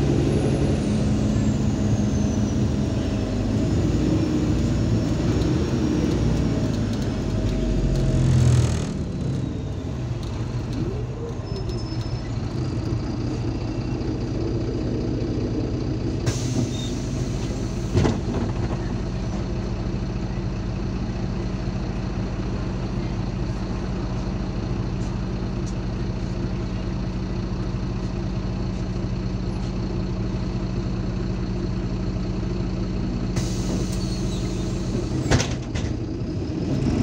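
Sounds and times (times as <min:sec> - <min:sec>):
bus diesel engine idling: 0:00.0 - 0:37.0.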